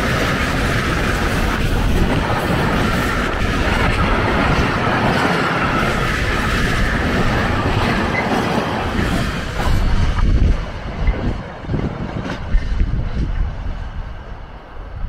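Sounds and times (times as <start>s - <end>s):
train wheels rumbling on rail: 0.0s - 15.0s
wind buffeting microphone: 0.0s - 15.0s.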